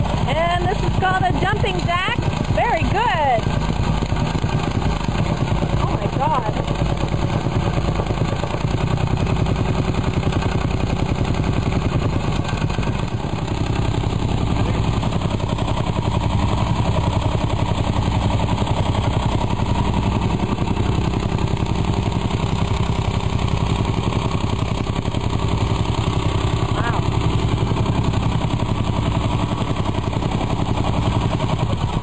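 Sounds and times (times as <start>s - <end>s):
tamping rammer pounding ground: 0.0s - 32.0s.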